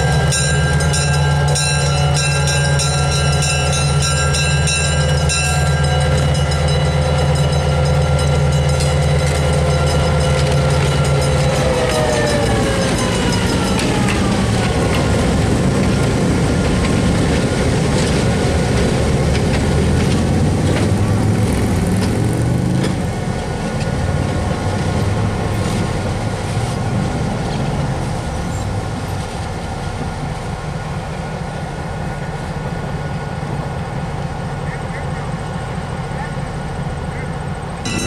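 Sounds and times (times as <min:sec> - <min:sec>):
diesel locomotive engine running: 0:00.0 - 0:38.0.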